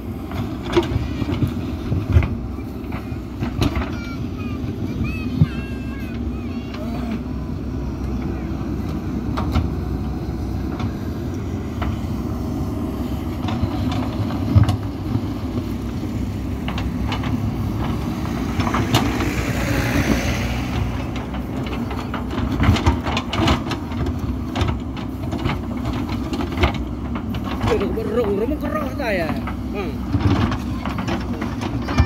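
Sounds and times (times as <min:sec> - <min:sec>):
backhoe diesel engine running: 0:00.0 - 0:32.0.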